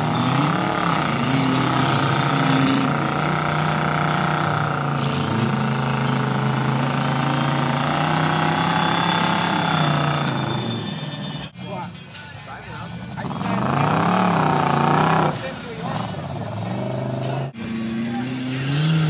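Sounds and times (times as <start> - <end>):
truck engine at high revs: 0.0 - 11.9, 12.6 - 19.0.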